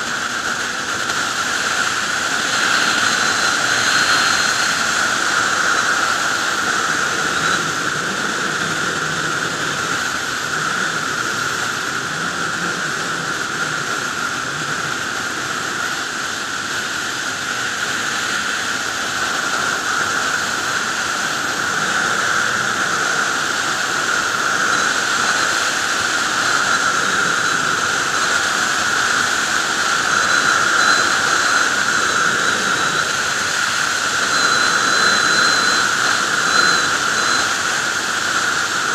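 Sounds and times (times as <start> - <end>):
motorcycle engine drone: 0.0 - 38.9
wind rushing over microphone: 0.0 - 38.9.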